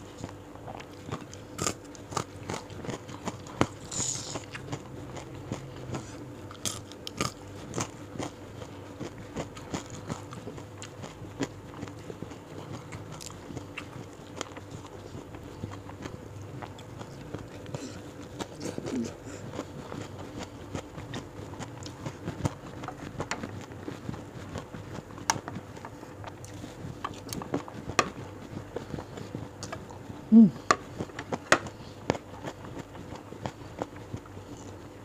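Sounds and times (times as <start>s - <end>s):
wet chewing: 0.1s - 34.9s.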